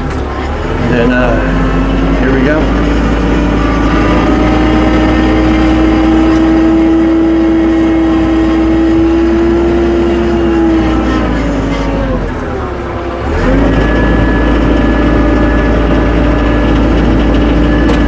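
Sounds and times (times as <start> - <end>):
tractor engine under load: 0.0 - 18.0.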